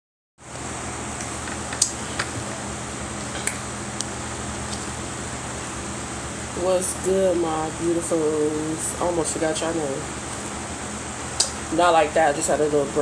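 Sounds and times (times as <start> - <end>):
room hum: 0.4 - 13.0.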